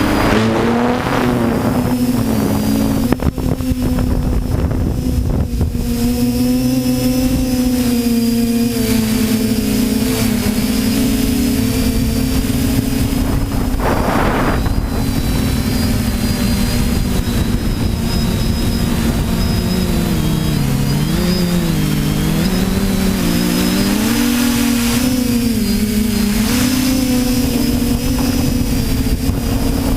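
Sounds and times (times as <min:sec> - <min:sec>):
drone propellers humming: 0:00.0 - 0:29.9
wind hiss on microphone: 0:00.0 - 0:29.9.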